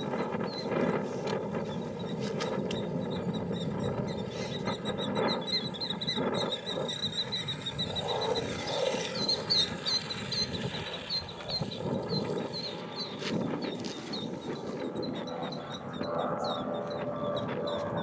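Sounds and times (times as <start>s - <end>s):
killdeer calling: 0.0s - 18.0s.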